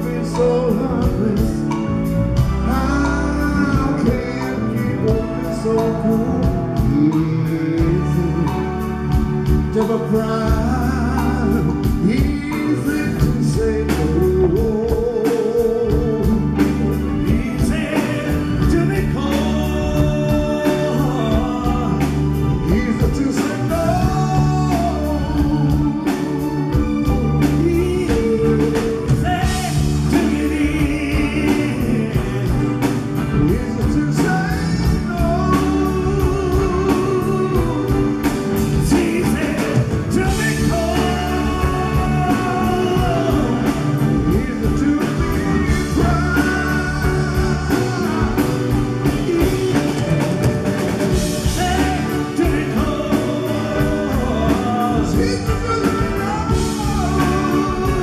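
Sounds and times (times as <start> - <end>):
live rock band with vocals: 0.0 - 58.0.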